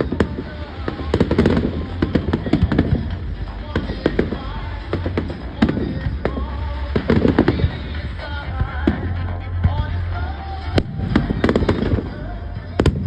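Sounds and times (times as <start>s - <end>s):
fireworks bangs and crackles: 0.0s - 13.0s
music soundtrack: 0.0s - 13.0s.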